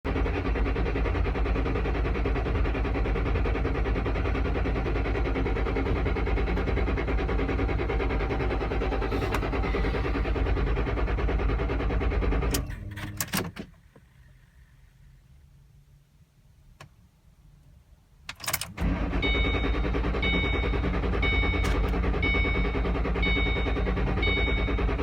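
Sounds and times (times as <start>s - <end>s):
car starter cranking: 0.1s - 14.6s, 18.2s - 25.0s.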